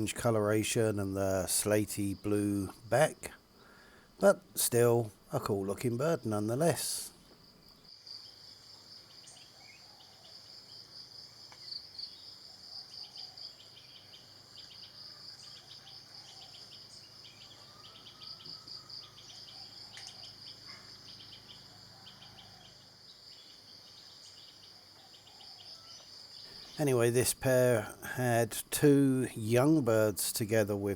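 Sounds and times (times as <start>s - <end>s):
insects trilling: 0.0s - 30.9s
rapid insect chirps: 0.0s - 30.9s.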